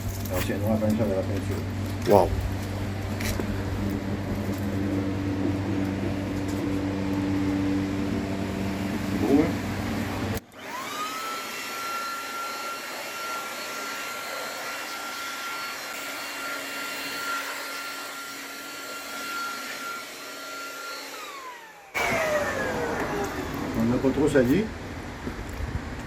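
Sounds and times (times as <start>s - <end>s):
electric blower motor whine: 1.2s - 26.0s.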